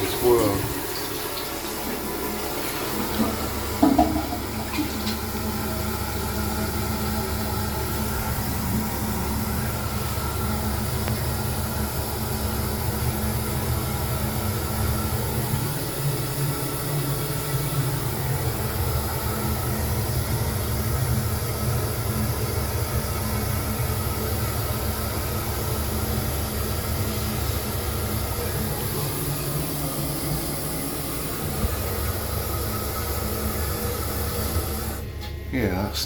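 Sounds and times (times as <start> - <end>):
toilet flushing and cistern refilling: 0.0 - 36.0.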